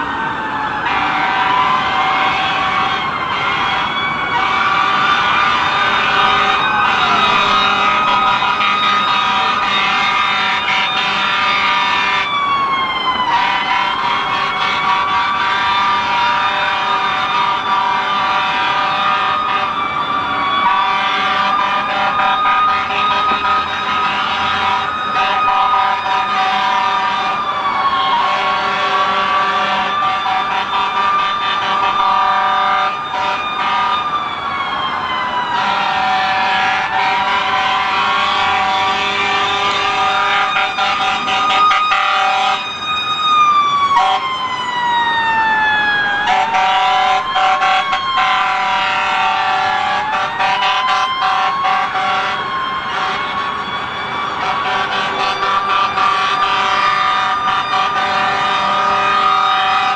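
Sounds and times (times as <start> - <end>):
emergency sirens wailing: 0.0 - 59.9.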